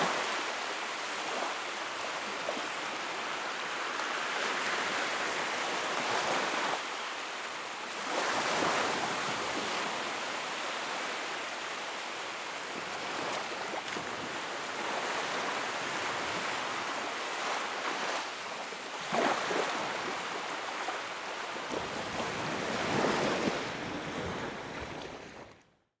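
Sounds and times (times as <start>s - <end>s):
sea waves rushing: 0.0s - 25.4s.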